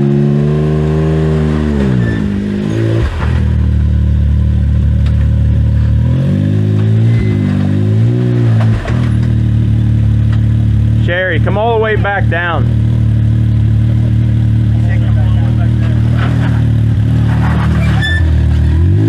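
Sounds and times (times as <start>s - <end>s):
utv engine revving: 0.0s - 19.0s.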